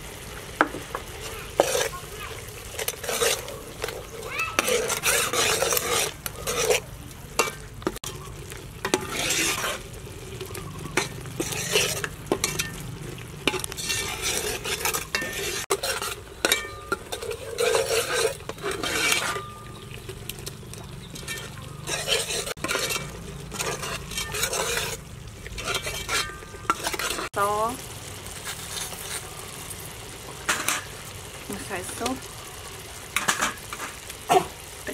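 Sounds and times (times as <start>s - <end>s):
mixture sizzling: 0.0s - 34.9s
metal ladle scraping pot: 0.6s - 27.4s, 28.4s - 29.5s, 30.4s - 31.0s, 33.1s - 34.5s.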